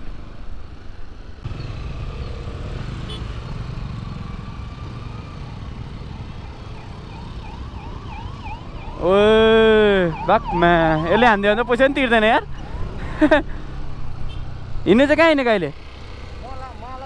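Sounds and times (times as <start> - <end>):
motorcycle engine and road rumble: 0.0 - 17.0.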